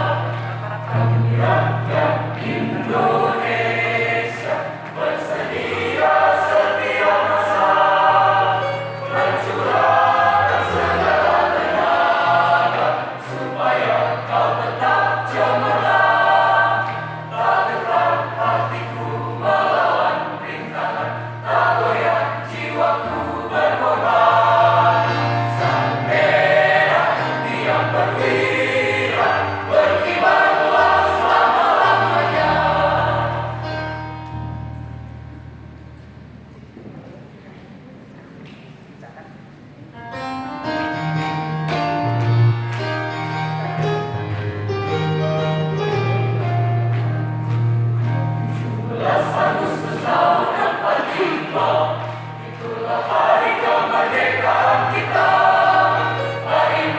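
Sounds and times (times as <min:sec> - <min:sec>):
choir singing in parts: 0:00.0 - 0:34.6, 0:43.6 - 0:56.9.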